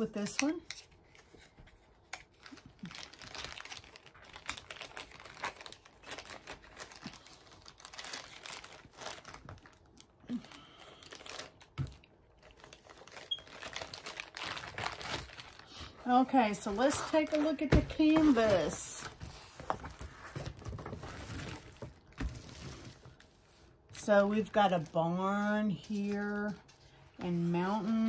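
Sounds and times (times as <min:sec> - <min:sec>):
plastic bag crinkling: 0:02.3 - 0:25.3.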